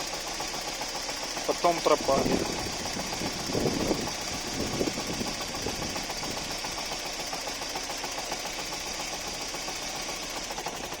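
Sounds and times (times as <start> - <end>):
car engine idling with ticking: 0.0 - 11.0.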